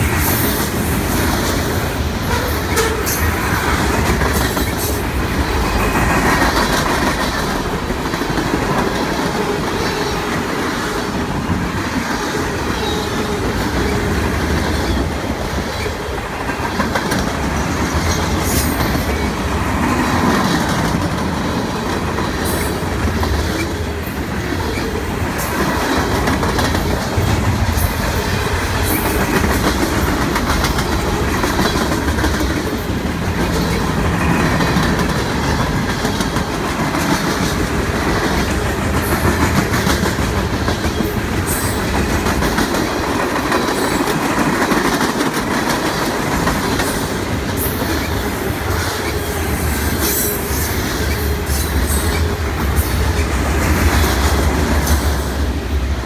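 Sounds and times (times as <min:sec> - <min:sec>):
wheels clacking over rail joints: 0:00.0 - 0:55.5
freight train wheels rumbling: 0:00.0 - 0:56.0.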